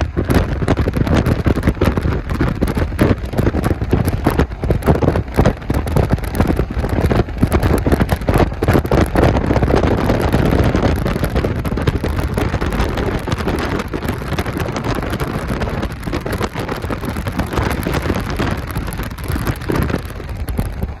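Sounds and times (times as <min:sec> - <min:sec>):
clatter of falling rocks: 0:00.0 - 0:21.0
low rumble: 0:00.0 - 0:21.0.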